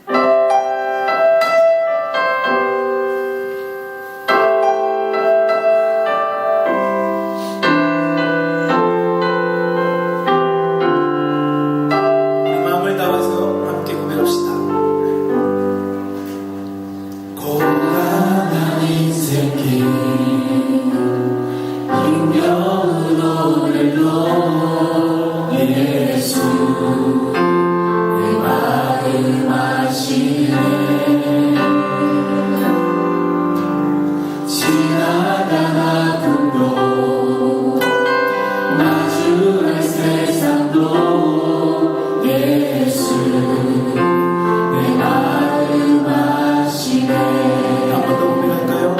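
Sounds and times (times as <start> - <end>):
congregation singing: 0.0 - 48.9
musical accompaniment: 0.0 - 48.9.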